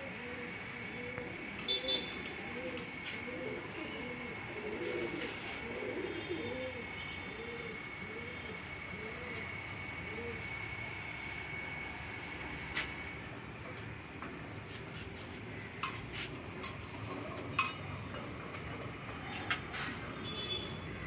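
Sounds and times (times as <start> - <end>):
pigeons cooing: 0.0 - 13.8, 15.5 - 21.0.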